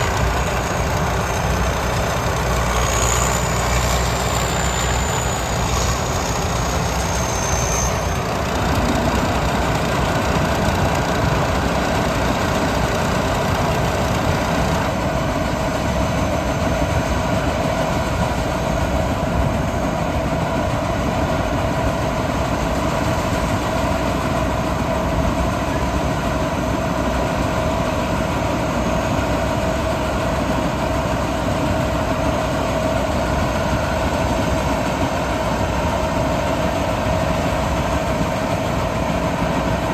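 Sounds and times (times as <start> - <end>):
combine harvester engine rumble: 0.0 - 39.9
machinery whining tone: 0.0 - 39.9.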